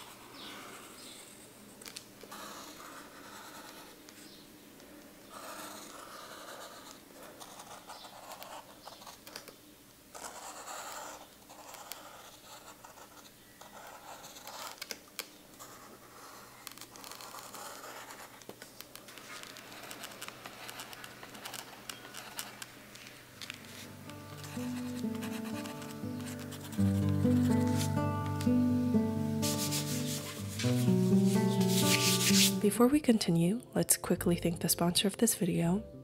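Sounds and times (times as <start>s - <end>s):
pencil scratching on paper: 0.0s - 4.4s, 5.3s - 9.5s, 10.1s - 22.7s, 23.6s - 32.7s.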